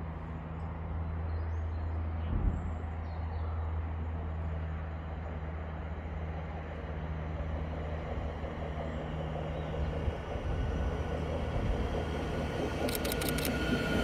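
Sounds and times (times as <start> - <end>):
train humming and rumbling: 0.0 - 14.0.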